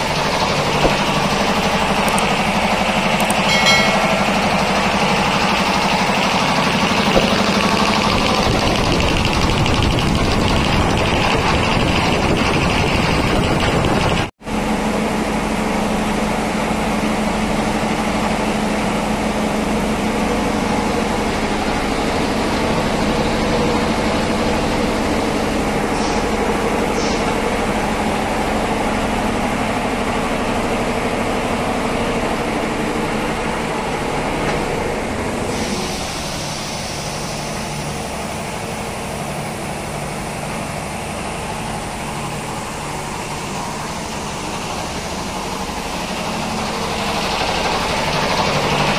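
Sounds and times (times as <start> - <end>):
air compressor humming: 0.0 - 48.9.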